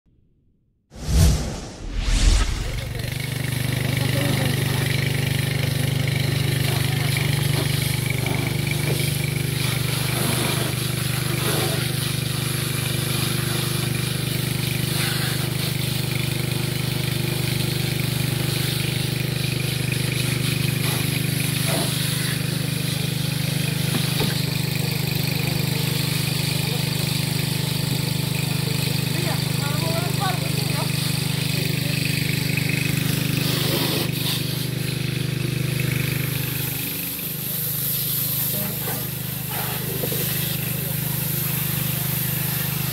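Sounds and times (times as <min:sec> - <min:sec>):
engine running steadily: 0:01.1 - 0:42.9
fire hose water spraying: 0:03.8 - 0:42.9.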